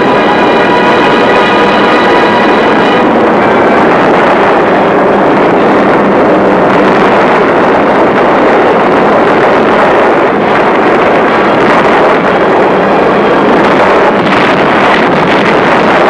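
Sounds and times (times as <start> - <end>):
aircraft engines and rushing air: 0.0 - 16.0.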